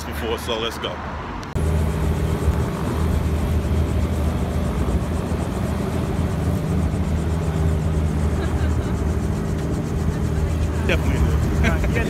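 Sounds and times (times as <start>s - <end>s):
helicopter engine humming: 1.4s - 12.0s.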